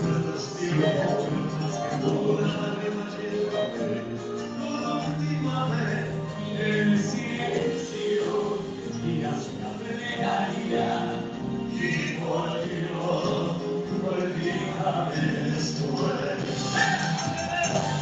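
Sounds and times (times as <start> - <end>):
instrumental accompaniment: 0.0 - 18.0
men singing a bolero: 0.0 - 18.0.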